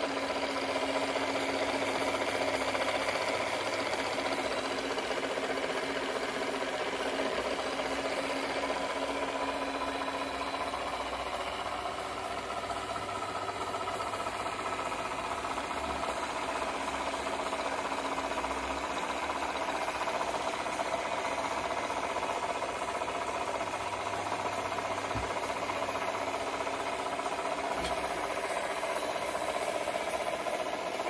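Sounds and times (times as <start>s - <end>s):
model steam engine rattling: 0.0s - 31.0s.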